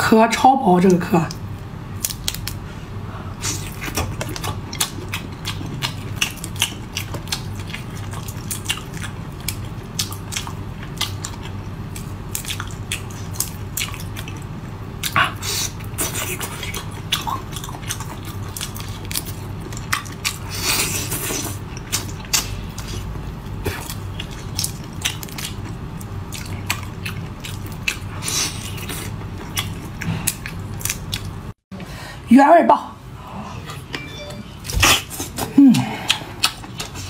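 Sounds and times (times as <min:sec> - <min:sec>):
steady low hum: 0:00.0 - 0:37.0
crackly chewing of shrimp: 0:01.2 - 0:31.6, 0:34.8 - 0:37.0.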